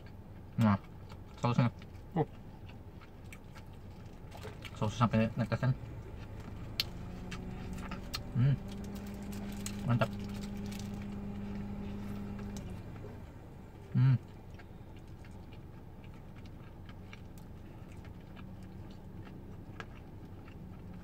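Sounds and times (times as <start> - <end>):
car hum: 0.0 - 21.0
person chewing food: 0.0 - 21.0.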